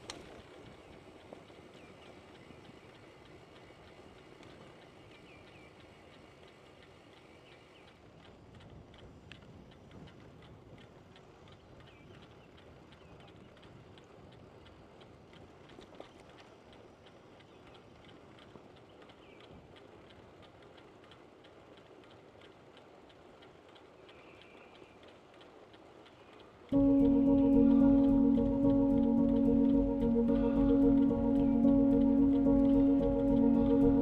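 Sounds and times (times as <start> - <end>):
bicycle freewheel ticking: 0.0 - 34.0.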